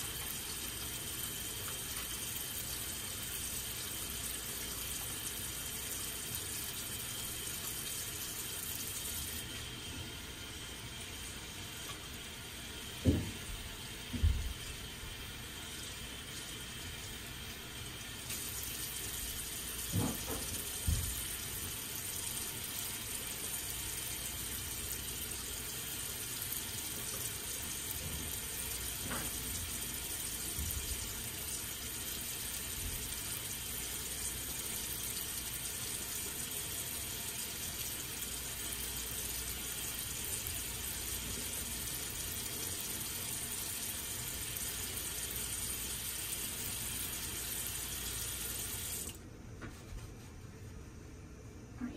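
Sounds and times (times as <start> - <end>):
tap water running into sink: 0.0 - 49.2.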